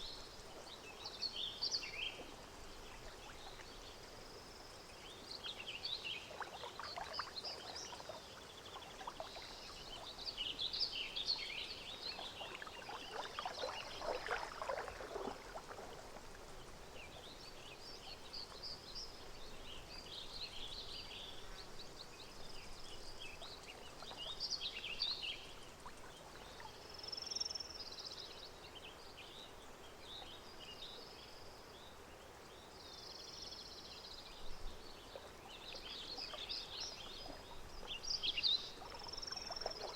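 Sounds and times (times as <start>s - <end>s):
gentle water sounds: 0.0s - 39.9s
small birds chirping: 0.0s - 39.9s.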